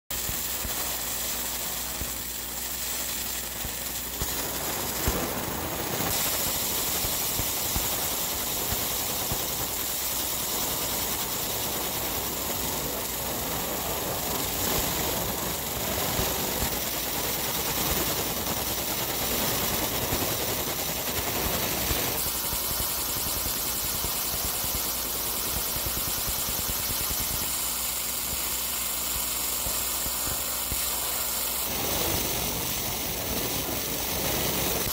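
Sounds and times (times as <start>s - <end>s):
laser engraver hiss and hum: 0.1s - 34.9s.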